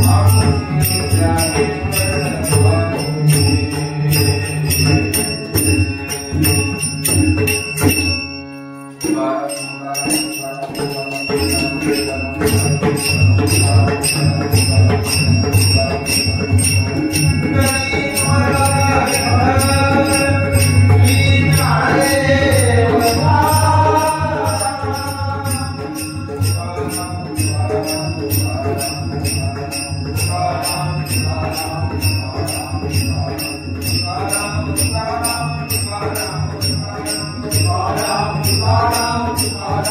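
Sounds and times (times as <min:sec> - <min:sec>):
man singing: 0:00.0 - 0:04.2, 0:09.0 - 0:39.9
hand cymbals clashing: 0:00.0 - 0:39.9.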